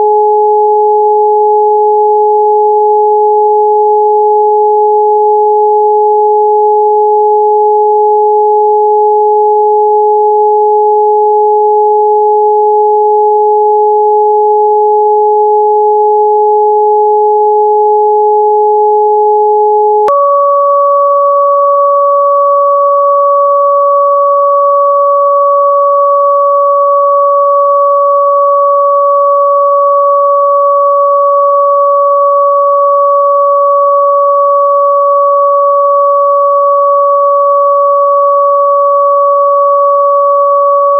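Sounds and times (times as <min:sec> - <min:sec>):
steady sine tones: 0:00.0 - 0:40.9.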